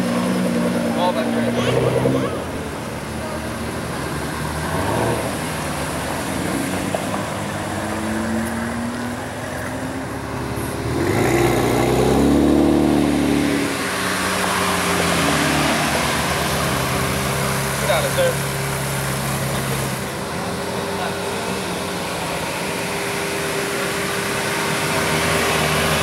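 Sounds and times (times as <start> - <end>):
car engine at low revs: 0.0 - 26.0
sports car engine accelerating: 0.0 - 26.0.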